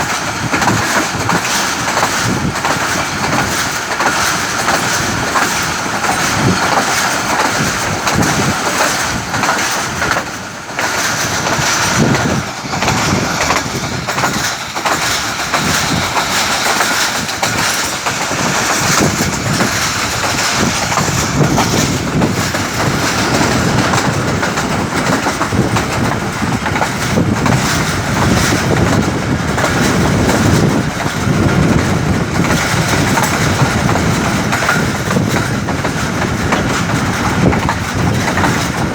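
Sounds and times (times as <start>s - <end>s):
train clacks: 0.0s - 38.9s
train wheels rumbling on track: 0.0s - 38.9s.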